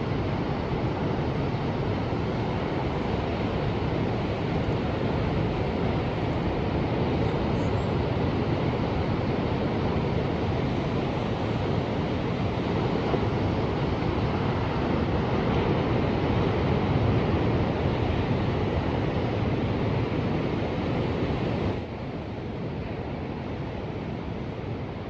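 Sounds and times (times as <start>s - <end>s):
ocean surf: 0.0s - 25.0s.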